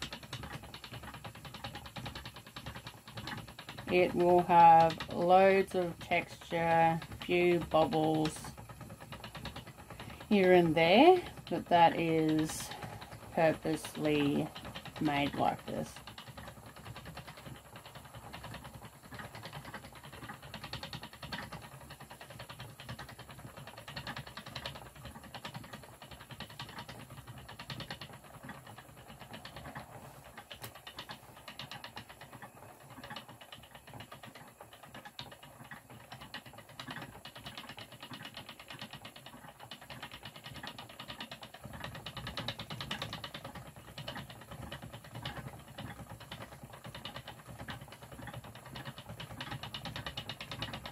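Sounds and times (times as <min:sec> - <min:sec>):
spinning wheel clatter and whirr: 0:00.0 - 0:50.9.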